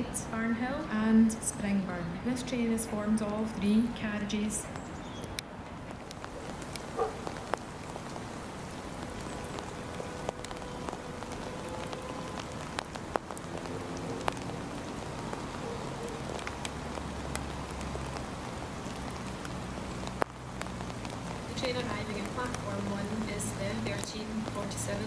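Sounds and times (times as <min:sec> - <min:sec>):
steady rain: 0:00.0 - 0:25.0
sharp drips and ticks: 0:02.2 - 0:25.0.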